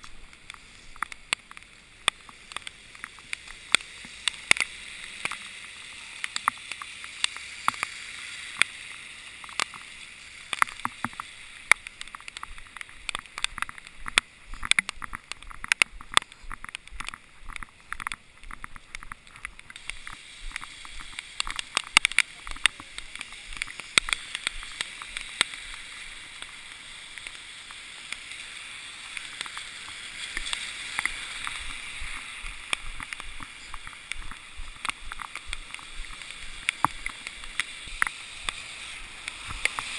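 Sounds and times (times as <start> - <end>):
raindrops tapping on camera: 0.0 - 39.9
steady hiss: 0.0 - 39.9.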